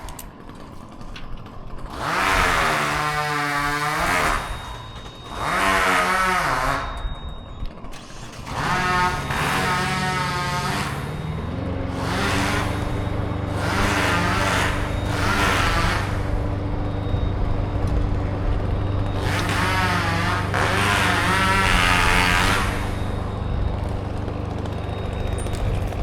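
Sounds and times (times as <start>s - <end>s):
chainsaw revving and cutting: 0.0s - 7.1s, 7.9s - 26.0s
engine running steadily: 0.0s - 26.0s.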